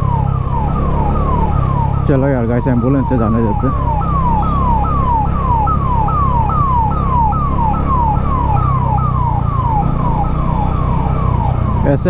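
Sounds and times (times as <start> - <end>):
ambulance siren yelping: 0.0 - 12.0.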